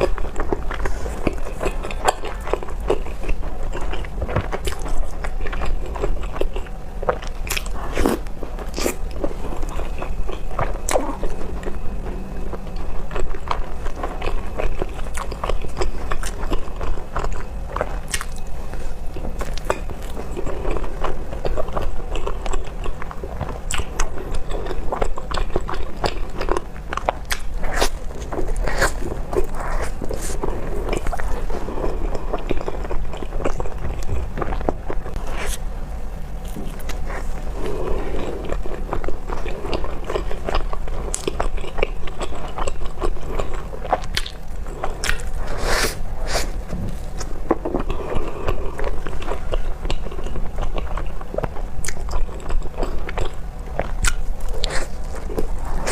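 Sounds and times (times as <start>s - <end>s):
bread chewing crunch: 0.0s - 35.7s, 36.3s - 55.9s
steady low hum: 0.0s - 55.9s.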